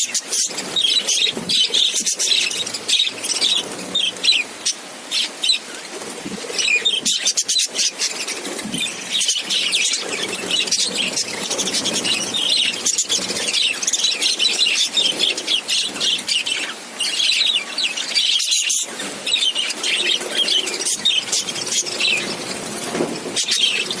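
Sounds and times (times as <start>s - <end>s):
budgerigars chirping and chattering: 0.0s - 24.0s.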